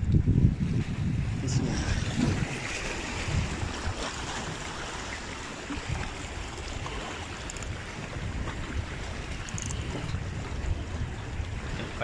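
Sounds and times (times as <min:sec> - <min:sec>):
wind rumbling on microphone: 0:00.0 - 0:12.0
waves washing against rocks: 0:00.2 - 0:12.0.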